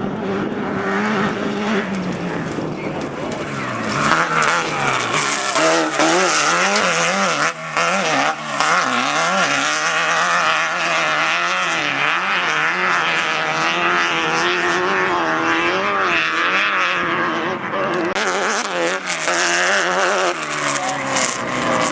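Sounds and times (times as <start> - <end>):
race car engine revving: 0.0 - 21.9.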